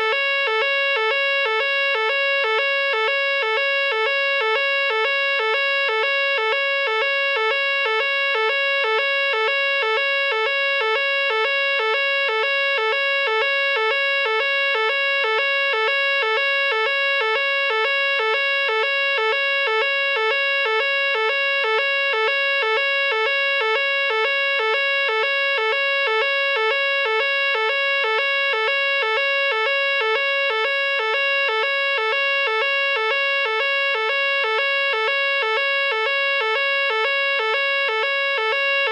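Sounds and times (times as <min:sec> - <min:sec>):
fire alarm high-low tone: 0:00.0 - 0:38.9.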